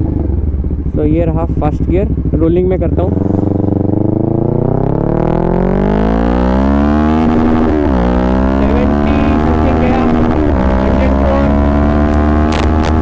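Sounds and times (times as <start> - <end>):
motorcycle accelerating hard: 0.0 - 13.0.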